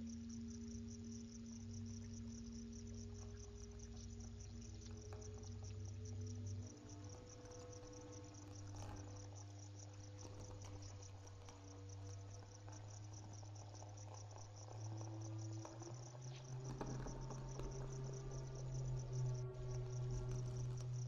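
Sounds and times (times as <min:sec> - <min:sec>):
insects chirping: 0:00.0 - 0:21.0
low steady hum: 0:00.0 - 0:21.0.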